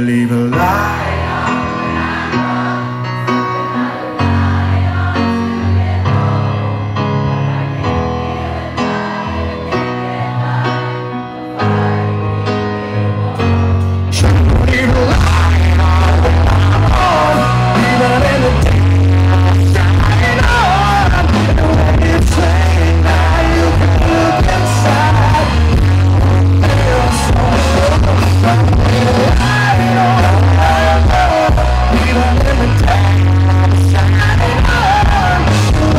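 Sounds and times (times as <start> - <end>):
person singing: 0.0 - 6.5, 8.8 - 35.9
live rock band playing: 0.4 - 35.9.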